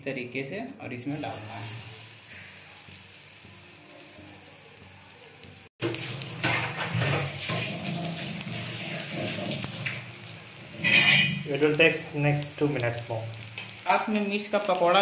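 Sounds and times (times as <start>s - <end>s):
patties frying in hot oil: 1.0s - 15.0s.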